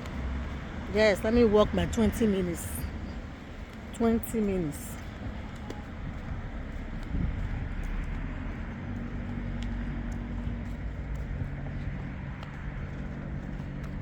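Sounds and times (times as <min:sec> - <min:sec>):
faint footsteps: 0:00.0 - 0:14.0
low motor hum: 0:00.0 - 0:14.0.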